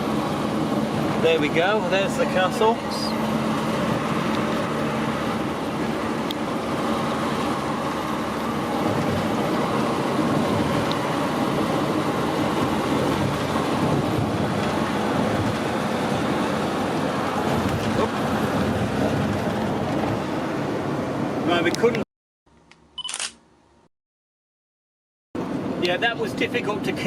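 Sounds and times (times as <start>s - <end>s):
road and engine noise: 0.0s - 23.9s, 25.4s - 27.0s.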